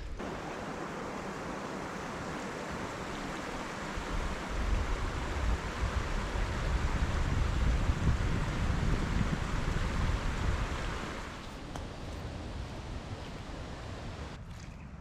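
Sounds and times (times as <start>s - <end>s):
wind gusts rumbling on microphone: 0.0s - 14.4s
wind rushing hiss: 0.0s - 14.4s.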